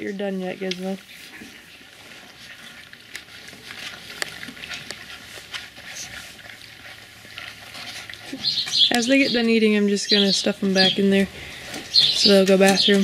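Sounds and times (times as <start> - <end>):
puppies chewing and smacking: 0.0 - 13.0.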